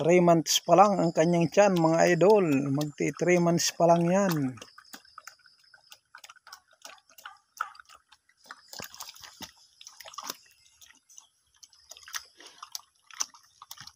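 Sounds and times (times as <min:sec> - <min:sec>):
pig chomping feed: 0:00.0 - 0:13.9.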